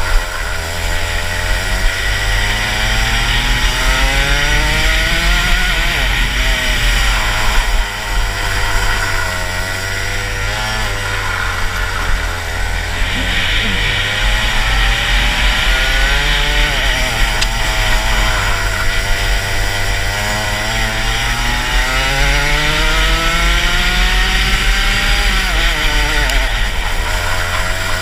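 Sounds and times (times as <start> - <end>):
kart engine revving: 0.0 - 28.0.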